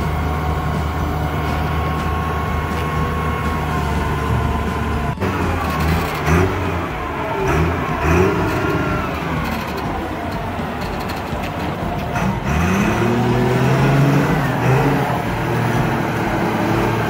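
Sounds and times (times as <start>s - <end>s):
diesel loader engine revving: 0.0s - 17.0s.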